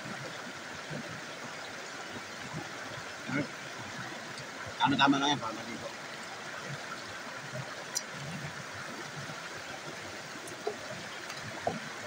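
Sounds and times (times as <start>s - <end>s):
water splashing over rocks: 0.0s - 12.0s.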